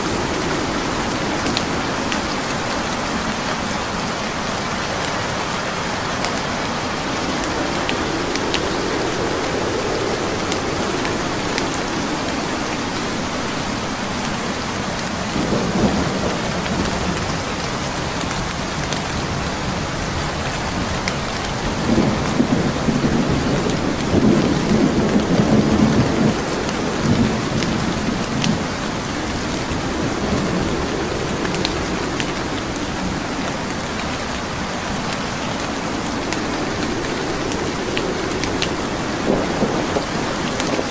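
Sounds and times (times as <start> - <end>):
wood fire crackling: 0.0 - 15.4, 23.5 - 40.9
heavy rain: 0.0 - 40.9
thunder rumbling: 0.0 - 40.9.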